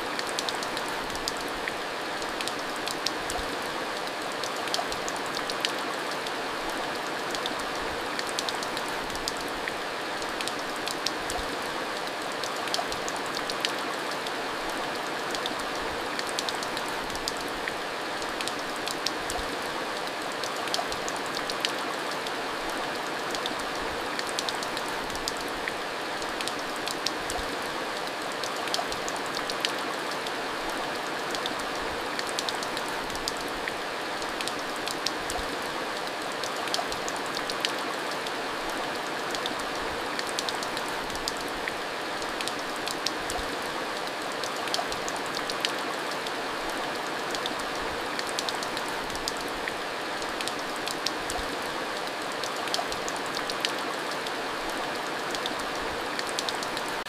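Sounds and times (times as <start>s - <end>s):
heavy rain on a hard surface: 0.0s - 57.0s.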